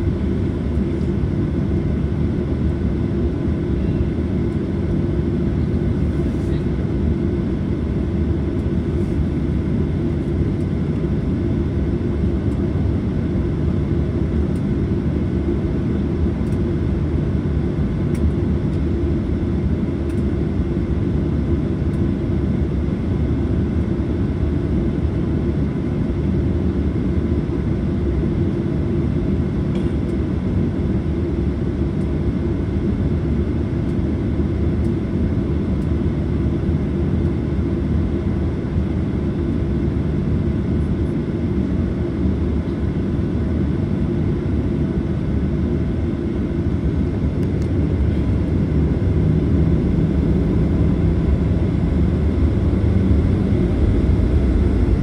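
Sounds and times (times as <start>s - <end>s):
jet engine cabin noise: 0.0s - 55.0s.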